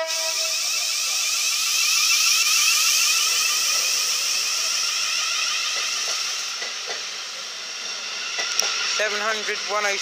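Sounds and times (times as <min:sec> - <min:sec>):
electric train motors whining: 0:00.0 - 0:10.0.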